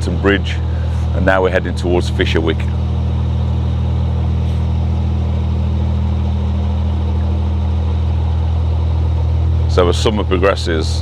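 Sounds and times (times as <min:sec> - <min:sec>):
diesel boat engine humming: 0:00.0 - 0:11.0.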